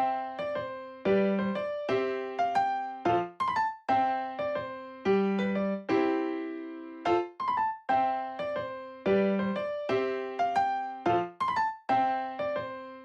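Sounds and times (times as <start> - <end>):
bouncy piano tune: 0.0 - 13.0.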